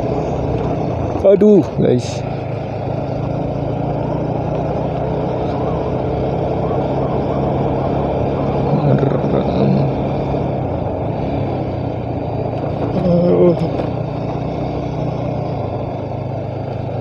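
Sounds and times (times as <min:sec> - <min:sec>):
scooter engine hum: 0:00.0 - 0:17.0
wind and road noise: 0:00.0 - 0:17.0.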